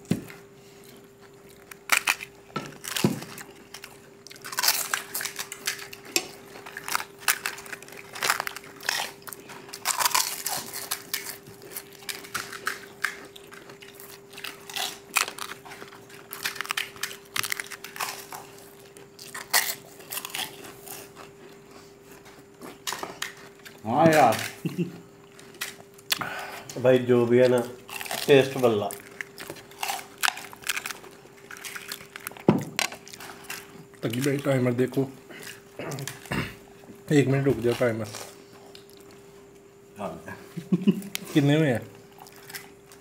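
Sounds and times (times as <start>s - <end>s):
people crunching crisp shells: 0.0s - 39.7s, 40.7s - 43.0s
faint steady hum: 0.0s - 43.0s.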